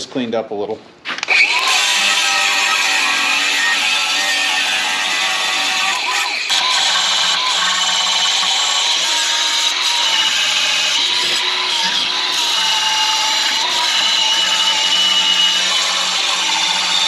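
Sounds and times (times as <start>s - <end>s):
angle grinder whining on steel: 1.2s - 17.0s.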